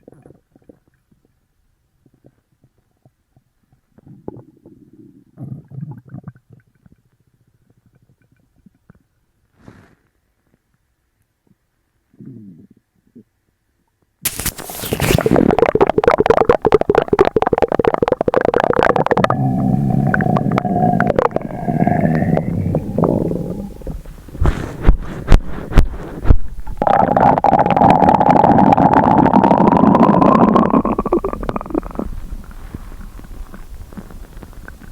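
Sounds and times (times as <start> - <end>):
stomach rumbling and gurgling: 0.0 - 9.5, 14.3 - 34.9.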